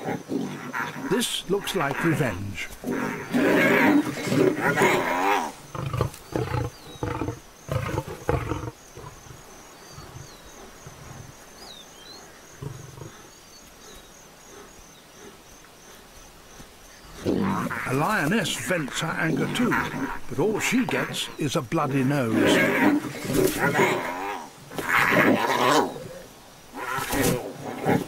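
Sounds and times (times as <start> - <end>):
lions growling: 0.0 - 28.0.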